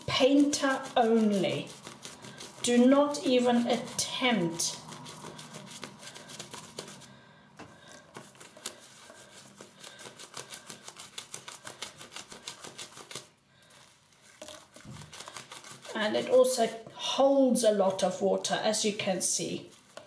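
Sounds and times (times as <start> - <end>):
shaving brush squishing lather: 0.0 - 7.2, 7.8 - 20.0.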